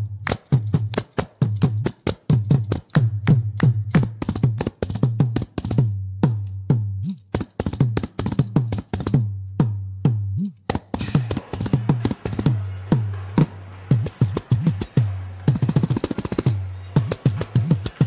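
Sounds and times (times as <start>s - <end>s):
frame drums playing: 0.0s - 18.0s.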